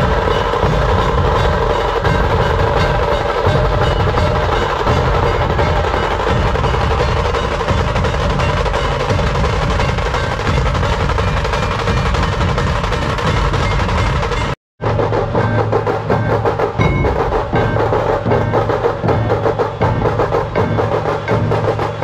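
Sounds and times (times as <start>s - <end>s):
massed drums beating: 0.0s - 22.0s.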